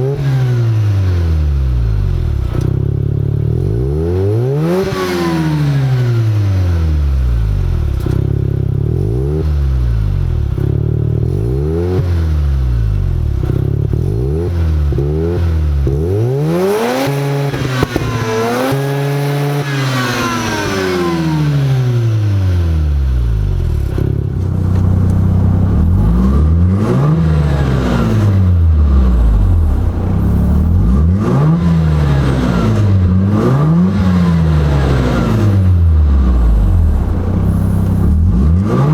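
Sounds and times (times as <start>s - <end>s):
rotary engine revving: 0.0s - 8.3s, 10.5s - 38.9s.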